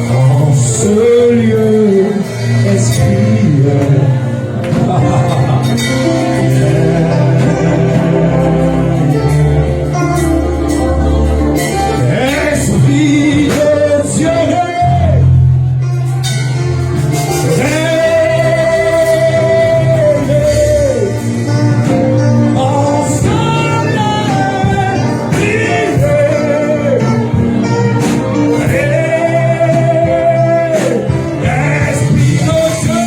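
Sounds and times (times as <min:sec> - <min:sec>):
band playing gospel music: 0:00.0 - 0:33.0
person singing: 0:00.0 - 0:33.0.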